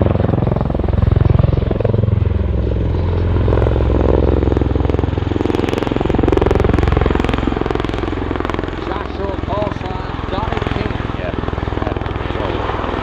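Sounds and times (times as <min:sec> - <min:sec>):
aircraft engines droning: 0:00.0 - 0:13.0
rotors beating: 0:00.0 - 0:13.0.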